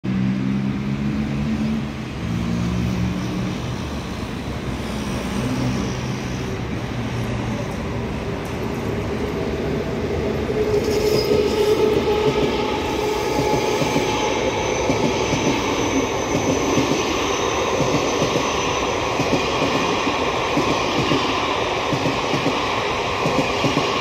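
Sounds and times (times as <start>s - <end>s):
train rumble: 0.1s - 24.0s.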